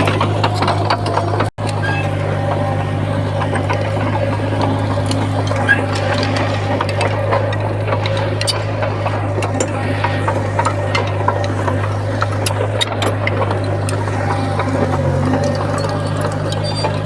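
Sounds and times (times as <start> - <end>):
diesel earthmoving machinery droning: 0.0 - 17.0
metal clanks and scrapes: 3.3 - 17.0.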